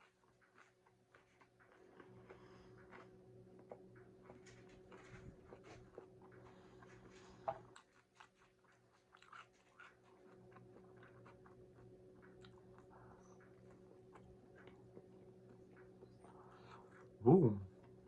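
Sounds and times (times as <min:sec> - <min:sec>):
crunchy chewing and biting: 0:00.0 - 0:18.0
faint steady hum: 0:00.0 - 0:18.0.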